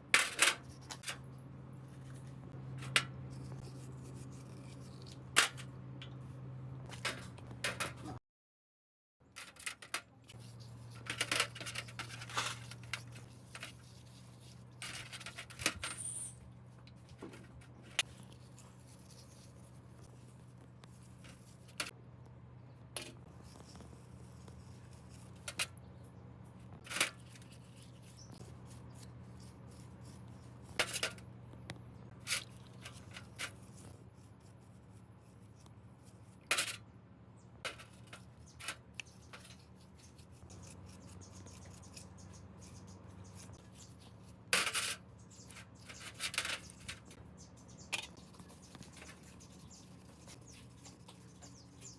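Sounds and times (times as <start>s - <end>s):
steady low hum: 0.0s - 8.2s, 9.9s - 51.9s.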